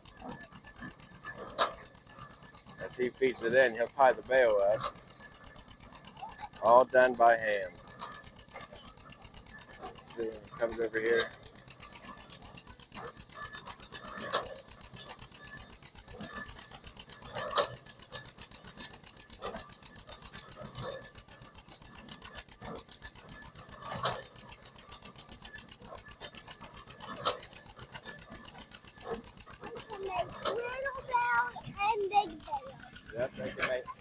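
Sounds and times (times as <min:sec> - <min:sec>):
baler mechanical clatter: 0:00.0 - 0:34.0.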